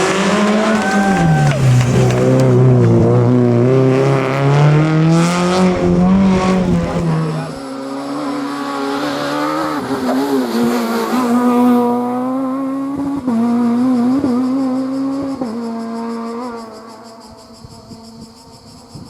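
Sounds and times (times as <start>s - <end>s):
rally car engine at high revs: 0.0s - 18.4s.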